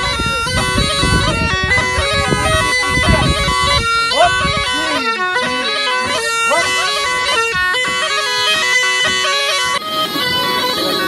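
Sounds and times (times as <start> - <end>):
bagpipe playing lively folk melody: 0.0 - 11.0.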